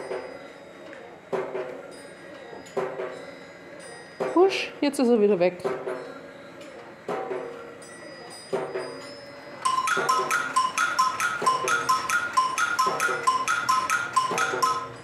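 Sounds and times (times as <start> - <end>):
mechanical percussion strikes: 0.0 - 4.7, 5.6 - 15.0.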